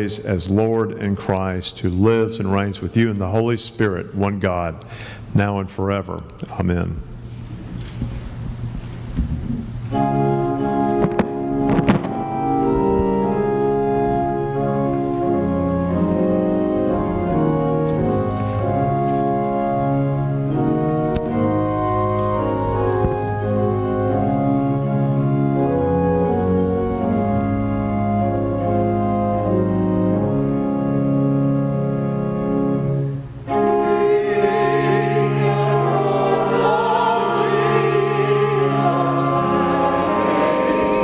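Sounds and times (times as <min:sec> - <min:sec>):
church organ chords: 0:00.0 - 0:07.3, 0:09.7 - 0:41.0.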